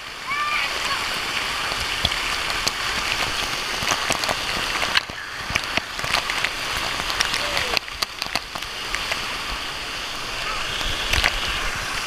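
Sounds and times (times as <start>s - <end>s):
scattered water splashes: 0.0s - 12.0s
waterfall pouring: 0.0s - 12.0s.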